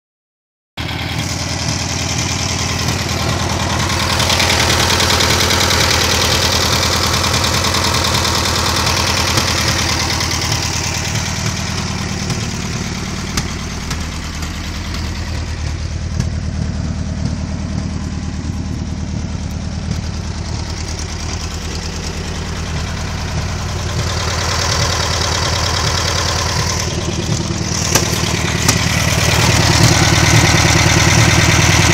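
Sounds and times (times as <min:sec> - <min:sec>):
car engine idling: 0:00.8 - 0:31.9.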